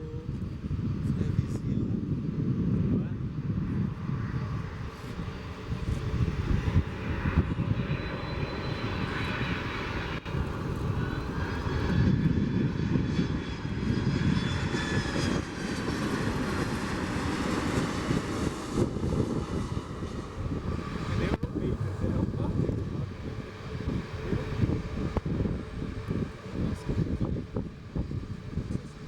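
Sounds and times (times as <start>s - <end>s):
jet engines rumbling and whining: 0.0s - 29.0s.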